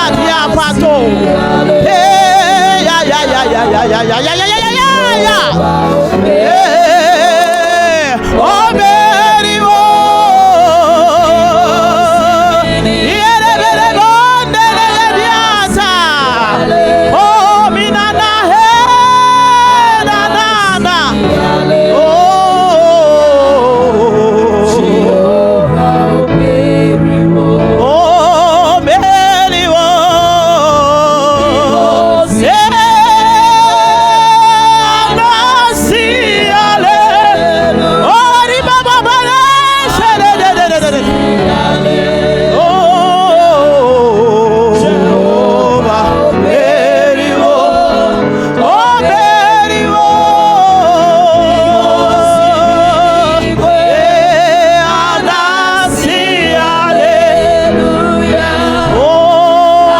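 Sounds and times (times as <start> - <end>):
instrumental backing: 0.0 - 59.9
person singing with vibrato: 0.0 - 59.9.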